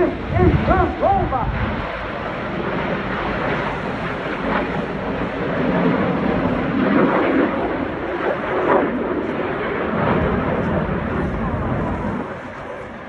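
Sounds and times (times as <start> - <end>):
jets flying overhead: 0.0 - 13.0.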